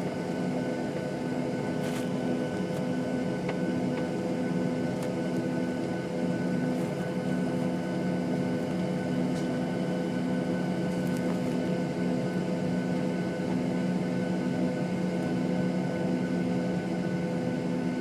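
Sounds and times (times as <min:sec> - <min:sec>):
airplane cabin engine drone: 0:00.0 - 0:18.0.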